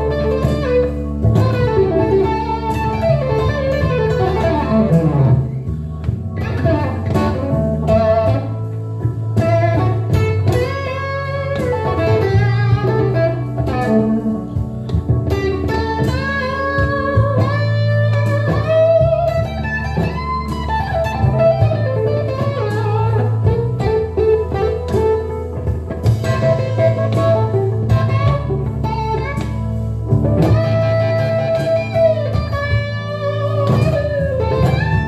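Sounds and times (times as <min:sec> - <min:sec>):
electric guitar blues lead: 0:00.0 - 0:35.0
low bass line: 0:00.0 - 0:35.0.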